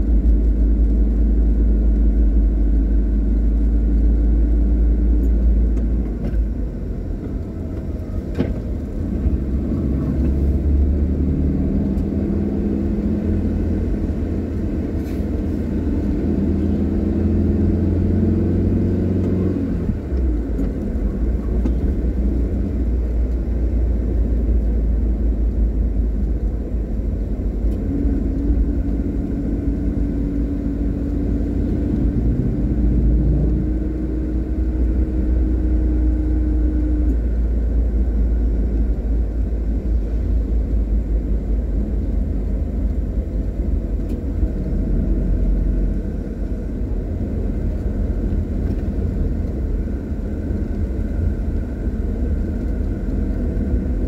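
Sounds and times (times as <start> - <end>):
car engine and tyres rumble: 0.0 - 54.0.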